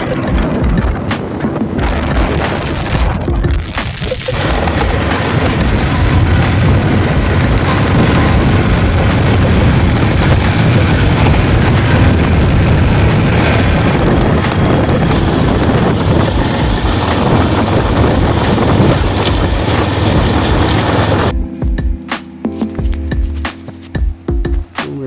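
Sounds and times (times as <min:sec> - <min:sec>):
motorcycle engine rumble: 0:00.0 - 0:21.4
wind buffeting on microphone: 0:00.0 - 0:21.4.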